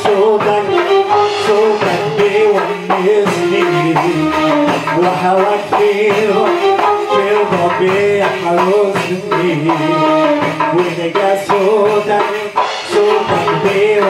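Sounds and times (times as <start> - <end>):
hand drum beat: 0.0 - 14.0
keyboard: 0.0 - 14.0
sliding melody: 0.0 - 14.0.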